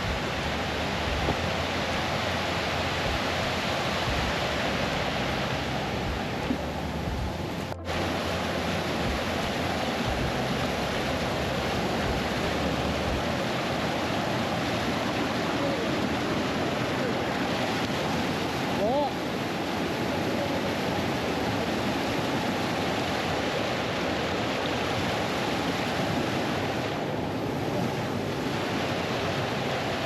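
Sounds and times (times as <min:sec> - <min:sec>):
fast-flowing stream rushing: 0:00.0 - 0:30.0.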